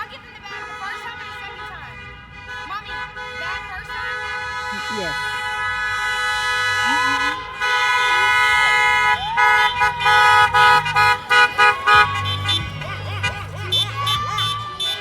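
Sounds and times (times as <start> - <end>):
car horns honking: 0.0 - 15.0
cars driving past: 0.0 - 15.0.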